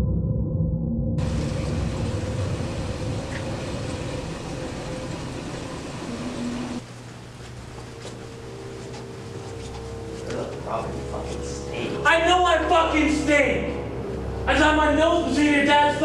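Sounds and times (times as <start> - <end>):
low drone: 0.0 - 6.8, 7.6 - 16.0
low rumble with hiss: 1.2 - 16.0.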